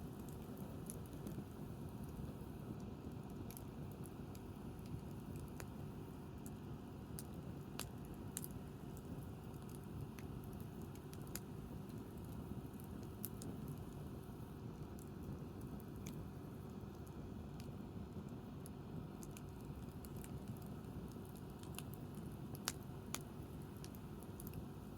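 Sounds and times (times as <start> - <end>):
campfire crackling: 0.0 - 24.9.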